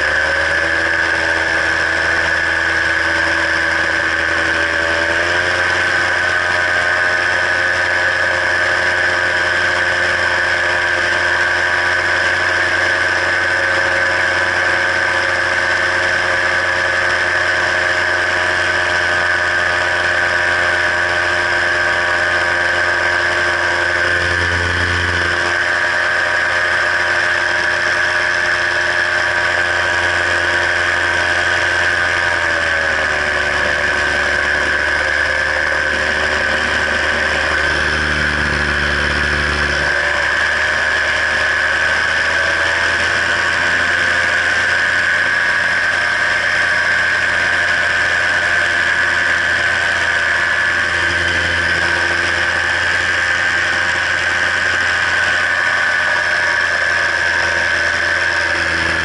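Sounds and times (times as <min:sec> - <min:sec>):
paramotor engine droning: 0:00.0 - 0:59.0.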